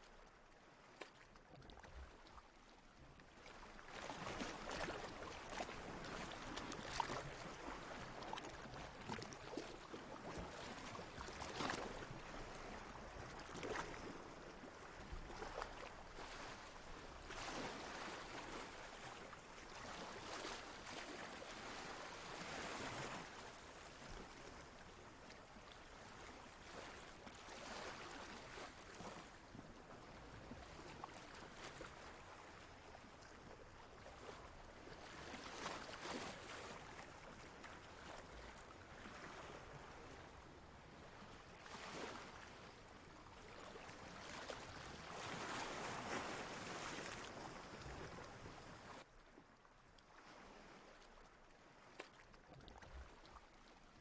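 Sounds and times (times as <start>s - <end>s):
water lapping and sloshing: 0.0s - 54.0s.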